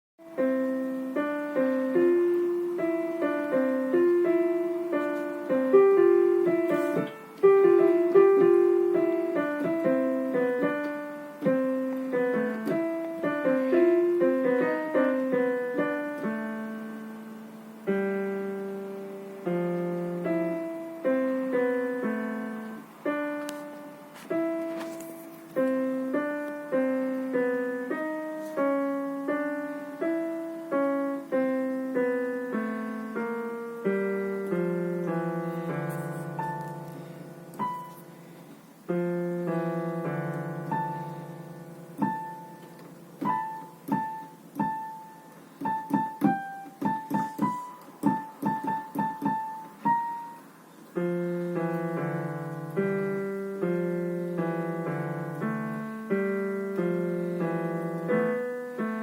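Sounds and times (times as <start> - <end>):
solo piano melody: 0.2 - 59.0.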